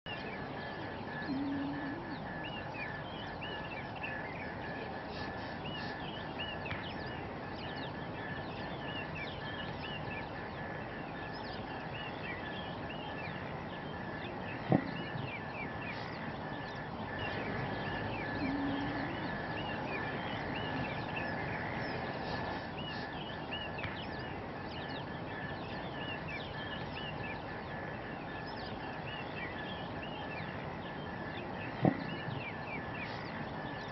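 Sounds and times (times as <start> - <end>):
background hiss: 0.1 - 33.9
birds chirping: 0.1 - 33.9
steady high drone: 0.1 - 33.9.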